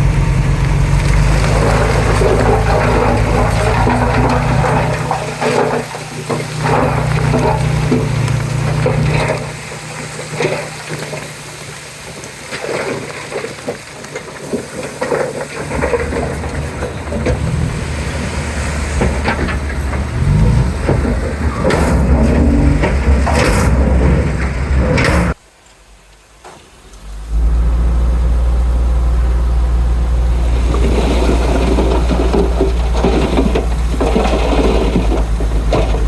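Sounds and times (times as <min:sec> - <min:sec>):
bulldozer diesel engine working: 0:00.0 - 0:25.4, 0:26.9 - 0:36.0.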